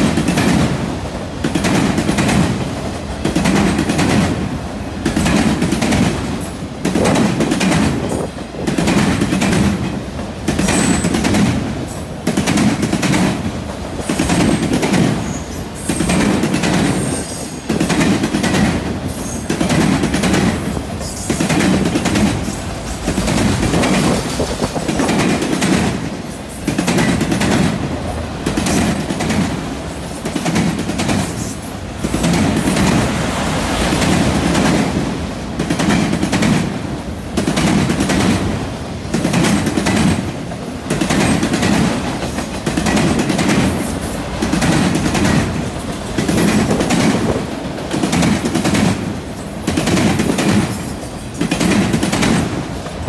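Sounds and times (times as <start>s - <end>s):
train wheels clattering on track: 0.0s - 53.0s.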